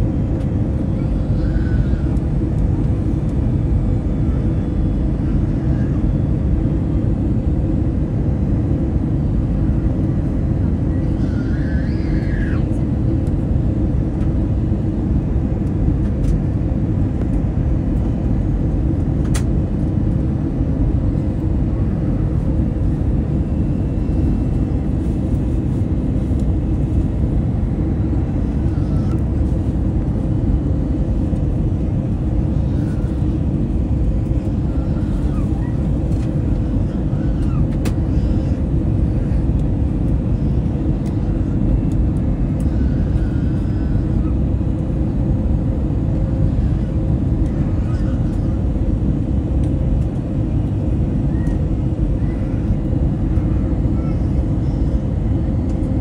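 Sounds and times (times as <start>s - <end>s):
airliner cabin engine rumble: 0.0s - 56.0s
faint even hum: 0.0s - 56.0s.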